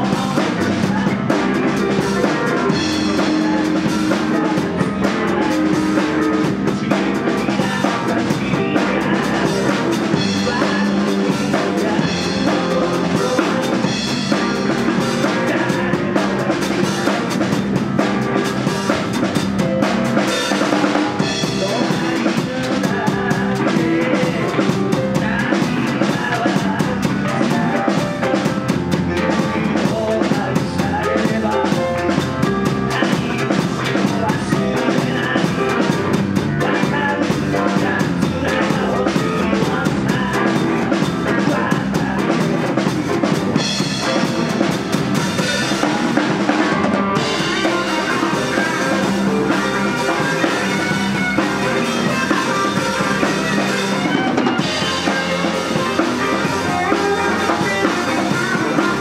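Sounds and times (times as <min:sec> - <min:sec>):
electric guitars: 0:00.0 - 0:59.0
live rock band playing: 0:00.0 - 0:59.0
snare and bass drum: 0:00.0 - 0:59.0.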